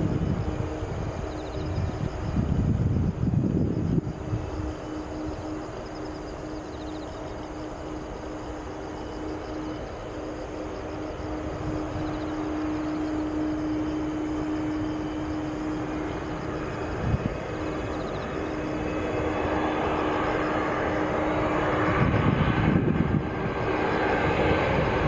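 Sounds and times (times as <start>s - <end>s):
jet engines droning: 0.0s - 25.0s.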